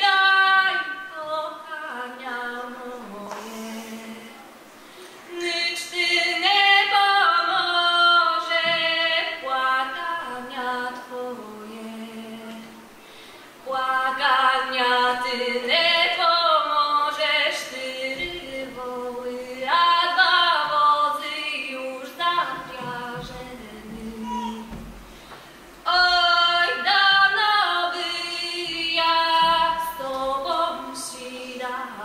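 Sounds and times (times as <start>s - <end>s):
woman singing folk song: 0.0s - 32.0s.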